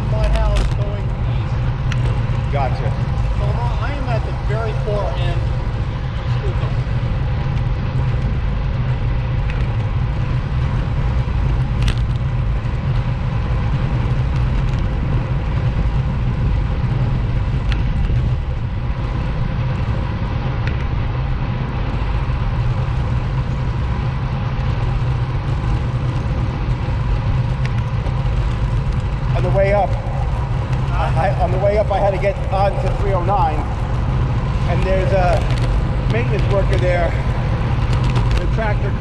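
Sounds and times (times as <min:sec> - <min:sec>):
motorcycle engine rumbling: 0:00.0 - 0:39.0
wind noise: 0:00.0 - 0:39.0.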